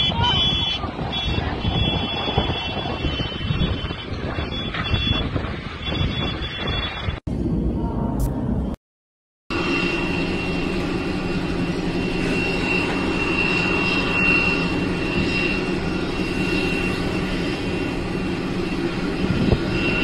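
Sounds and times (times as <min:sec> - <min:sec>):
high engine whine: 0:00.0 - 0:08.8, 0:09.5 - 0:20.0
jet engine rumble: 0:00.0 - 0:08.8, 0:09.5 - 0:20.0.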